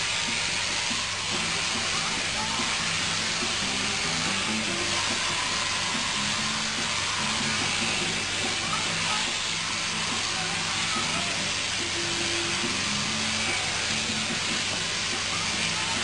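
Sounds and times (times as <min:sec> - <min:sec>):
shearing handpiece whirring: 0:00.0 - 0:16.0.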